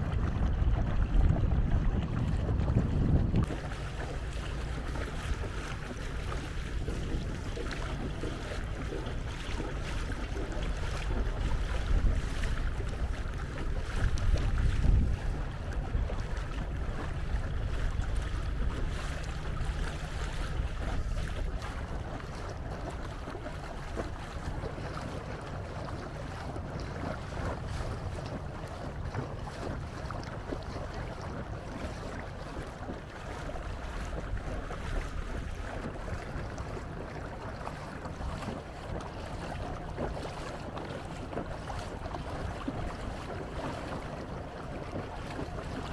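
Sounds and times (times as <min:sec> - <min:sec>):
water washing along canoe hull: 0:00.0 - 0:45.9
wind buffeting microphone: 0:00.0 - 0:45.9.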